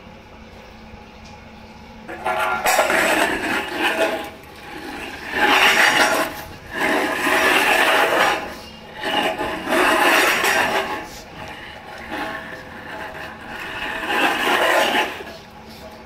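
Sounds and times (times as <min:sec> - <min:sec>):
metal bowl scraping on stone floor: 0:02.1 - 0:16.0.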